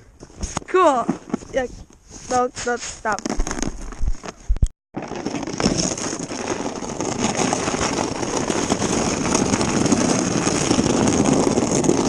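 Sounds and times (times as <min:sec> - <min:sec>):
sled scraping over snow: 0:00.2 - 0:12.0.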